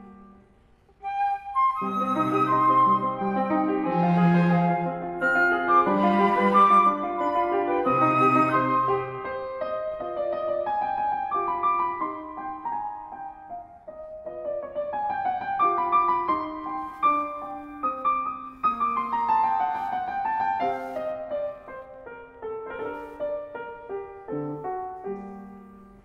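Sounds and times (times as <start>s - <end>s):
grand piano classical passage: 0.0s - 26.0s.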